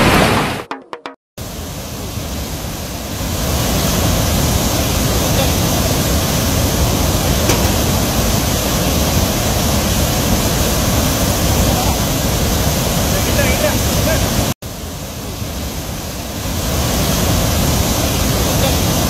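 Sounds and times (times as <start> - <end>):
churning water rushing: 1.4 - 19.0.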